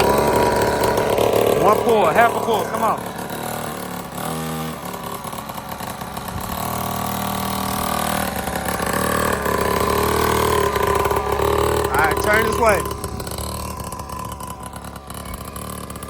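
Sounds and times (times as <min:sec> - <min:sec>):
small dirt bike engine running: 0:00.0 - 0:16.0.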